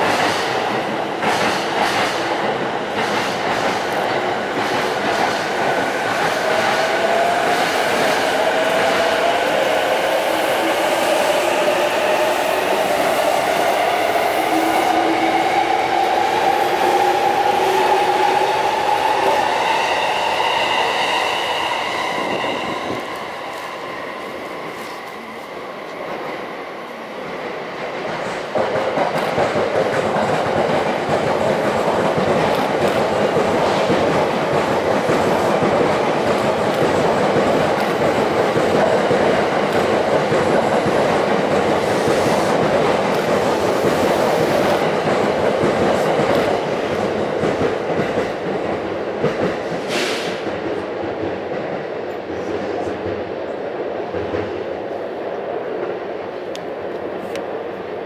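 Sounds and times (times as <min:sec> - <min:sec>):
electric train passing: 0:00.0 - 0:58.0.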